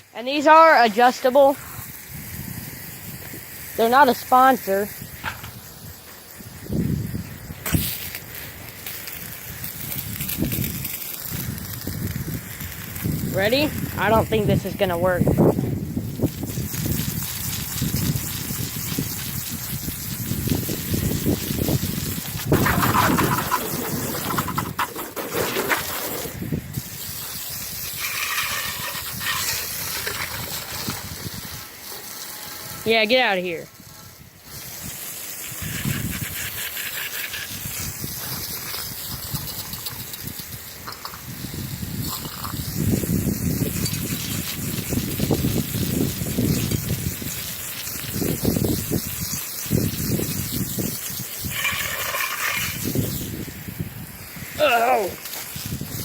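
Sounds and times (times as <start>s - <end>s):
hose spray on metal: 0.0s - 56.0s.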